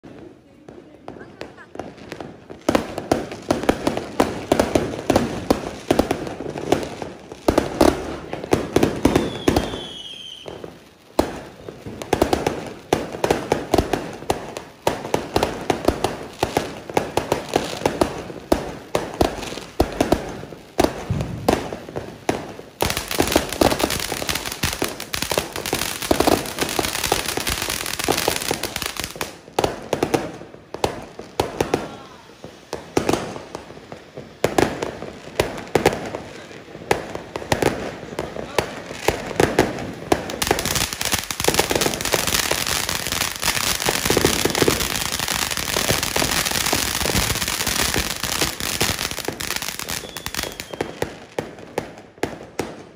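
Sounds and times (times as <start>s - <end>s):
fireworks popping and crackling: 0.0s - 52.9s.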